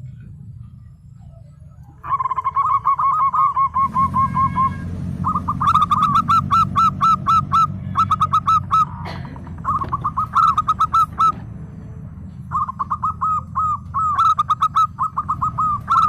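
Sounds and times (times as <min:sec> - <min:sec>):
low steady hum: 0:00.0 - 0:16.0
dove cooing: 0:01.2 - 0:11.5, 0:12.4 - 0:16.0.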